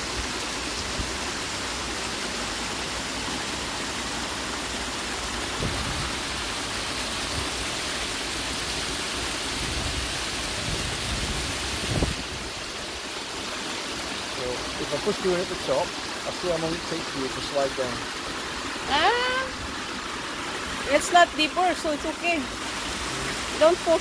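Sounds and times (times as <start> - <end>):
water pouring down a spillway: 0.0 - 24.0.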